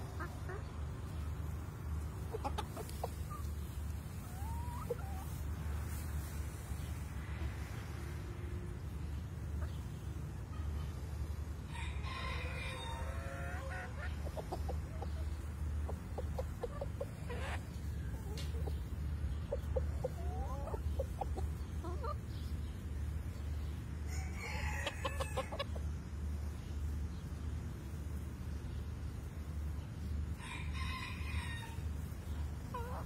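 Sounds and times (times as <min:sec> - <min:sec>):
hens clucking: 0:00.0 - 0:33.0.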